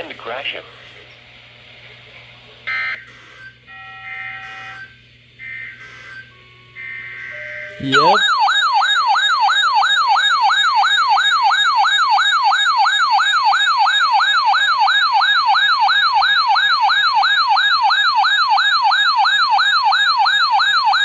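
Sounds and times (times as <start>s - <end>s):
electronic siren alert tone: 3.7s - 21.0s.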